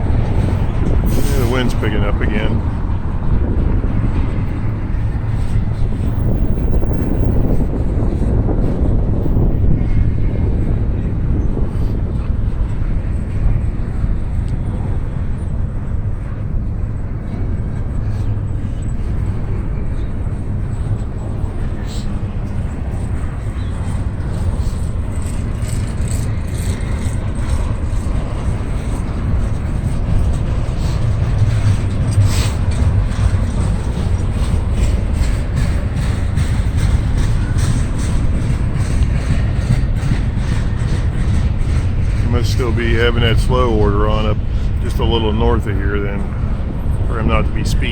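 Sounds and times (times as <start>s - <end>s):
freight train cars rumbling: 0.0s - 47.9s
wind buffeting microphone: 0.0s - 47.9s.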